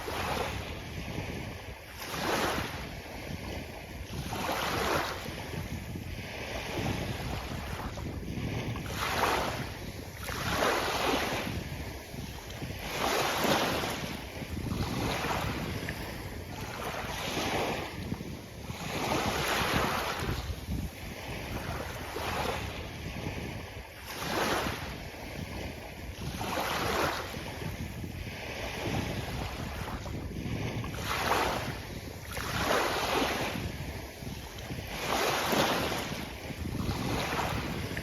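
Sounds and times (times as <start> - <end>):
waves washing onto beach: 0.0 - 38.0
wind rumble on microphone: 0.0 - 38.0.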